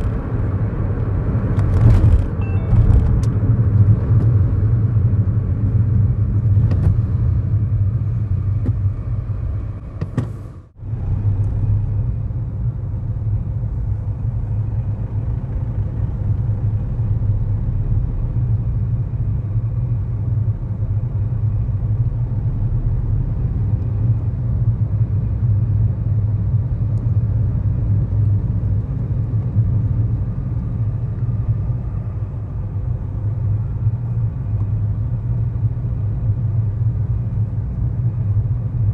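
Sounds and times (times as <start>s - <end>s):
car cabin engine and road rumble: 0.0s - 38.9s.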